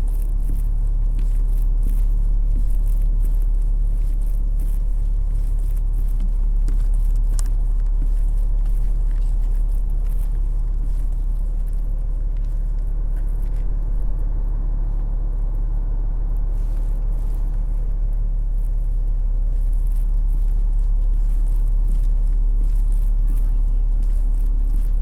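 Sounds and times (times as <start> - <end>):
low rumble of urban ambience: 0.0 - 25.0.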